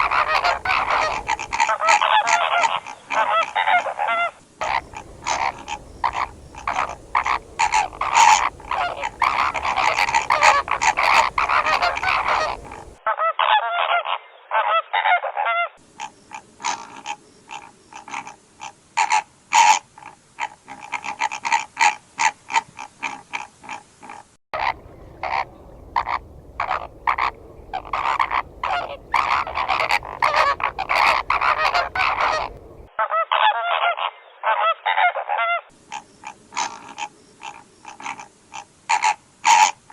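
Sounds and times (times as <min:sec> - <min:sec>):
flamingos honking: 0:00.0 - 0:39.9.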